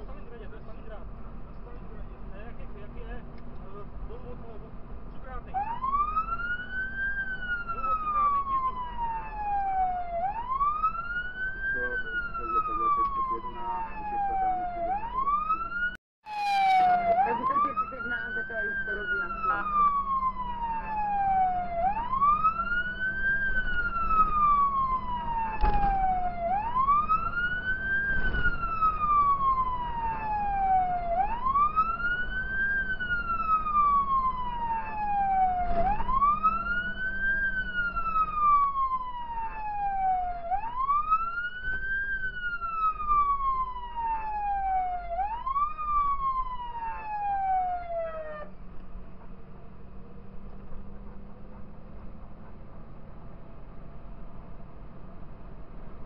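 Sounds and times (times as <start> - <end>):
truck engine hum: 0.0 - 56.0
fire engine siren wailing: 5.3 - 56.0.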